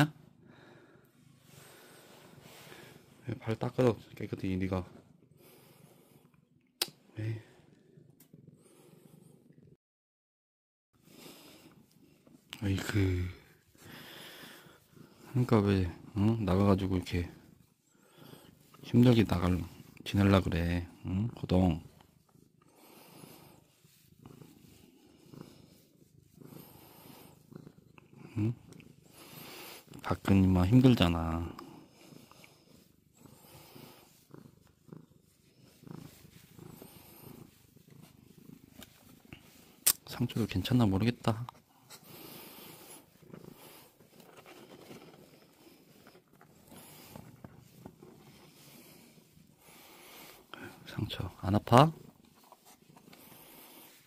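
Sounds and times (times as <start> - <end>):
cat purring softly: 0.0 - 9.8, 11.0 - 54.0.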